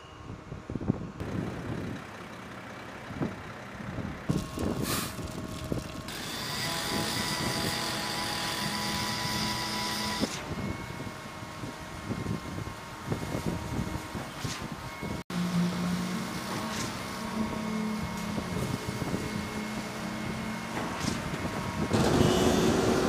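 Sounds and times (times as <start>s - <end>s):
construction machine noise: 1.2s - 23.0s
truck engine running: 1.2s - 23.0s.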